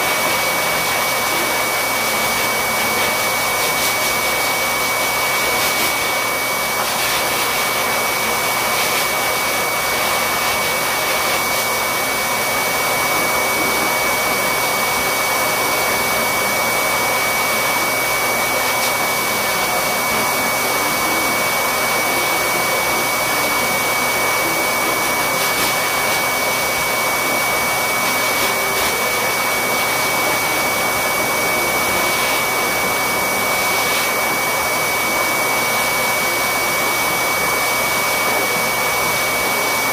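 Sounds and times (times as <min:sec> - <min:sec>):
electric pet clippers whirring: 0:00.0 - 0:39.9.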